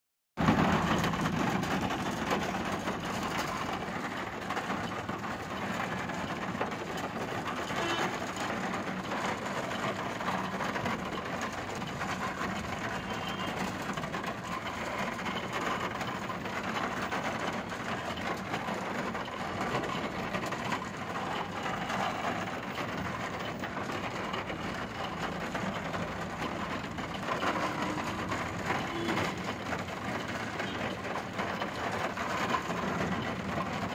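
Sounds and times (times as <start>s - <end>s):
vehicle engines running: 0.4s - 33.9s.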